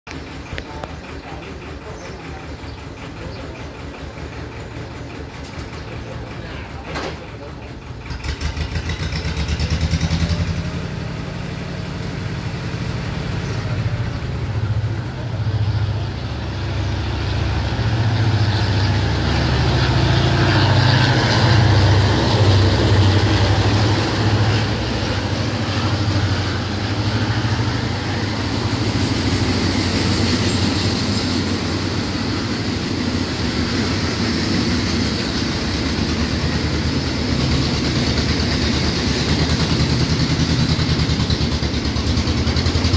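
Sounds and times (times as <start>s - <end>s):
locomotive engine throb: 0.1s - 42.9s
train wheels on rails: 0.1s - 42.9s.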